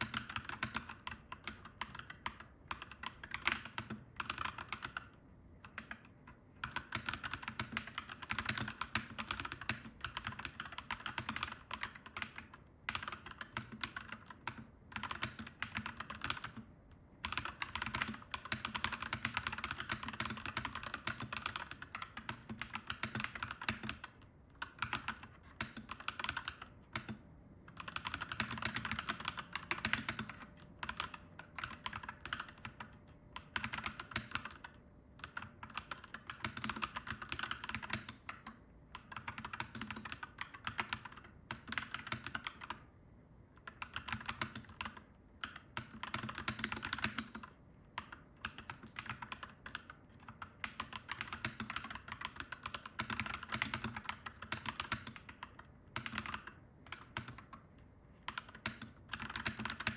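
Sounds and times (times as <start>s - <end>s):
mechanical keyboard typing: 0.0s - 42.9s, 43.5s - 59.9s.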